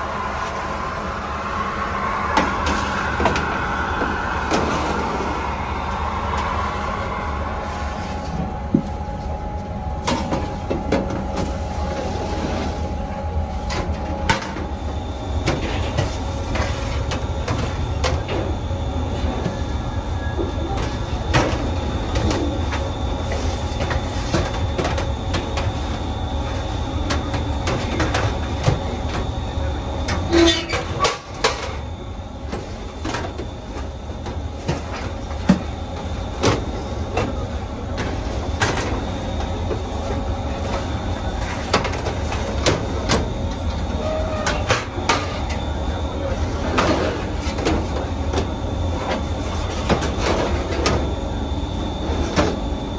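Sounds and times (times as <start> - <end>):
bakery machinery hum: 0.0 - 52.9.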